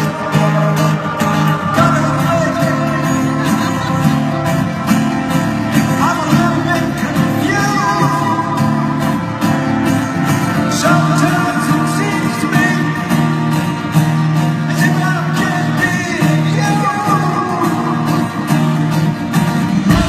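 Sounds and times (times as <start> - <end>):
gliding lead guitar lines: 0.0 - 20.0
live rock band playing: 0.0 - 20.0.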